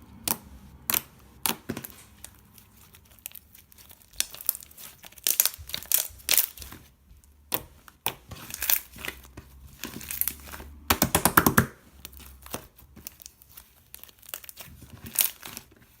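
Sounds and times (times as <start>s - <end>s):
crinkling and crackling: 0.0s - 16.0s.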